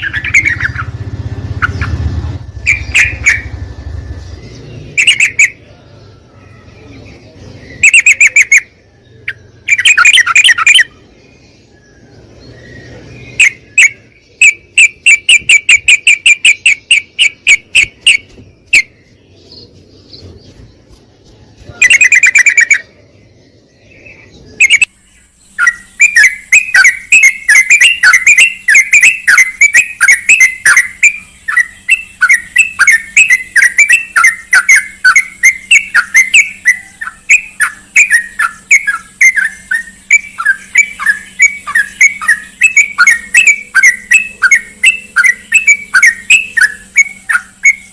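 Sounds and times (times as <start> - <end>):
bulbul song chirps: 0.0 - 47.9.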